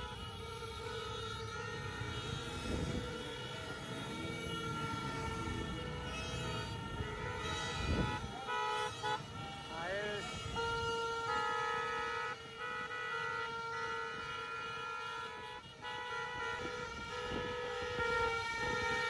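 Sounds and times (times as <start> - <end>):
horns honking: 0.0 - 19.0
vehicles rumbling: 0.0 - 19.0.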